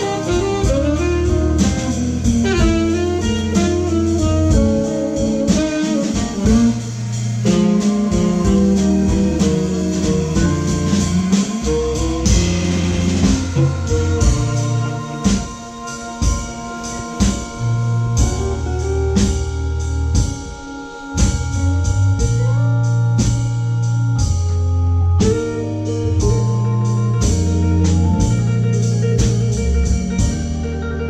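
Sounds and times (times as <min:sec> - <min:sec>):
drum kit: 0:00.0 - 0:31.0
organ holding chords: 0:00.0 - 0:31.0.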